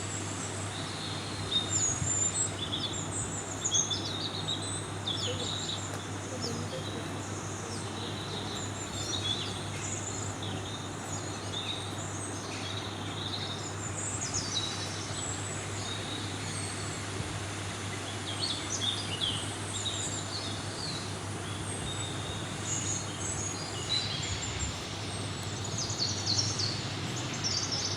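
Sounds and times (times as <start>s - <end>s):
low background hum: 0.2s - 27.9s
birds chirping: 0.7s - 17.2s, 17.9s - 27.9s.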